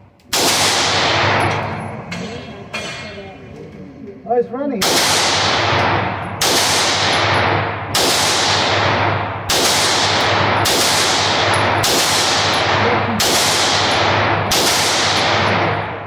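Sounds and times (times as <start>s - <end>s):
pistol shots echoing indoors: 0.0s - 3.1s, 4.8s - 16.0s.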